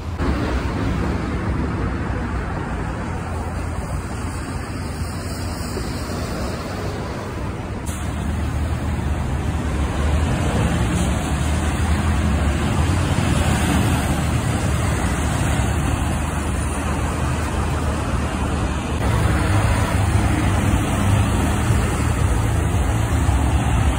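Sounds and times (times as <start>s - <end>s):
diesel truck engine running: 0.0s - 23.9s
steady traffic noise: 0.0s - 23.9s.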